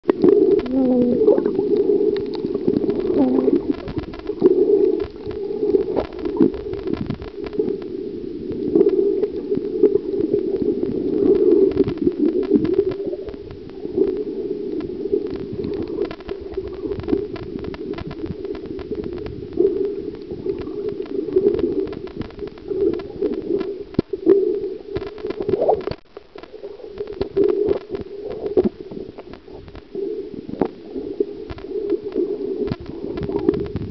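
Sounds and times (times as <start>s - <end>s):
underwater gurgling and sloshing: 0.0s - 33.9s.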